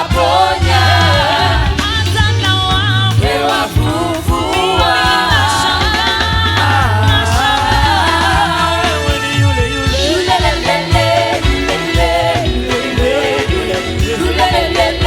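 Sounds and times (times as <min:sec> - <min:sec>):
band accompaniment with beat: 0:00.0 - 0:15.0
voices singing: 0:00.0 - 0:15.0.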